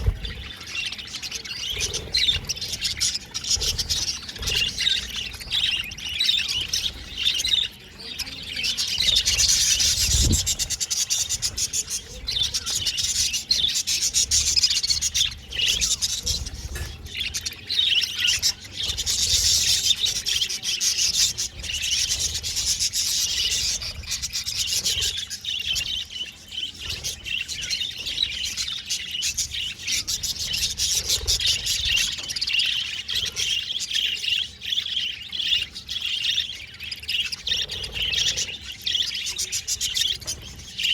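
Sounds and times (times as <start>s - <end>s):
budgerigars warbling and chirping: 0.0s - 40.9s.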